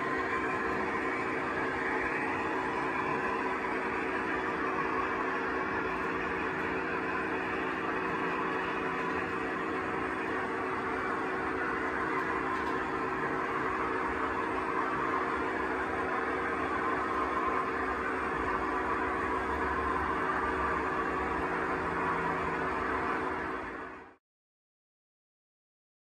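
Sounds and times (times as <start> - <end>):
model train wheels rolling: 0.0 - 23.9
steady hum: 0.0 - 24.2.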